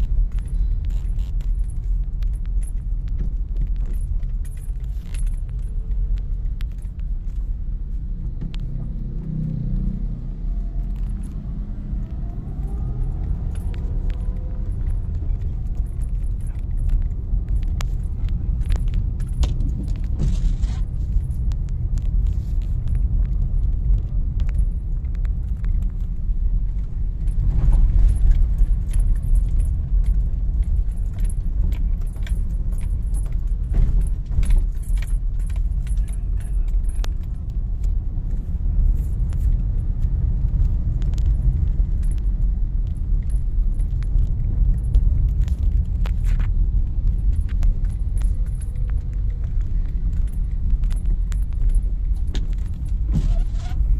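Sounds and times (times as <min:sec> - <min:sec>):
car engine and tyres rumbling: 0:00.0 - 0:53.9
sharp ticks and rattles: 0:00.0 - 0:53.9.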